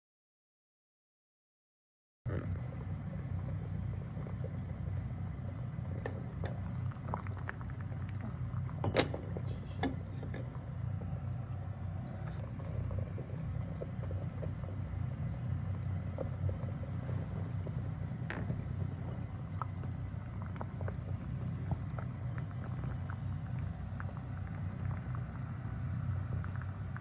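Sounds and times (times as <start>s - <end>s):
water boiling in lidded pot: 2.3s - 27.0s.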